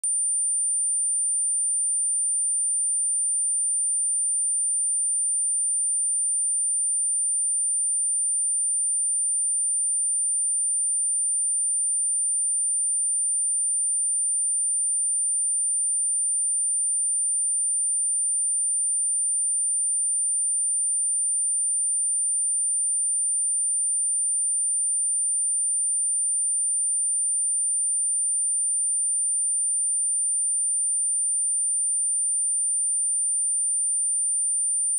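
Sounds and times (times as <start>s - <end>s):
high-pitched sine test tone: 0.0s - 34.9s.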